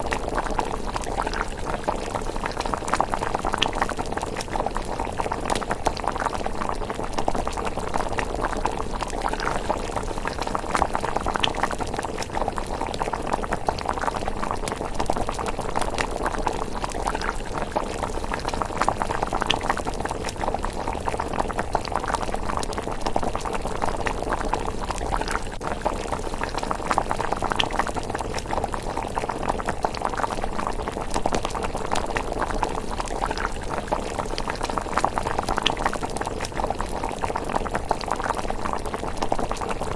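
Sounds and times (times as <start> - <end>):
bubbles popping: 0.0 - 39.9
porridge bubbling in a pot: 0.0 - 39.9.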